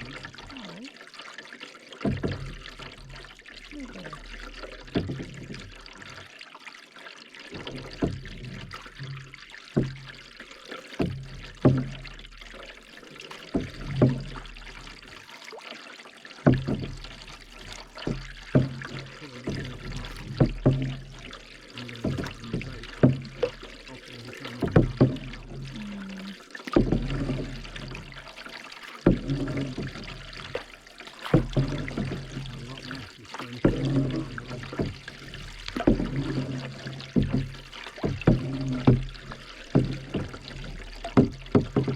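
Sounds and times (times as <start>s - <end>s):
canoe paddles pulling through water: 0.0s - 41.9s
water dripping off paddle blades: 0.0s - 41.9s.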